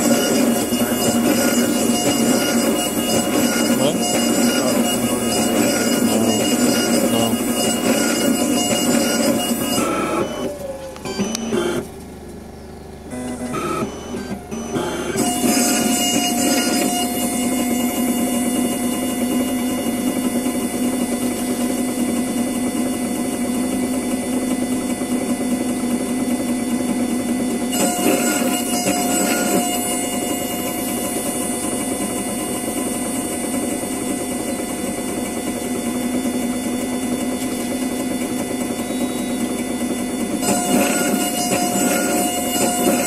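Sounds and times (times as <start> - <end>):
milling machine hum: 0.0 - 43.0.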